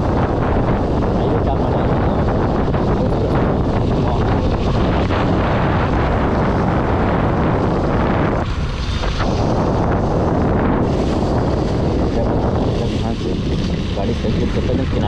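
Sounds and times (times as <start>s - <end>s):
motorcycle engine running: 0.0s - 15.0s
wind buffeting on microphone: 0.0s - 15.0s.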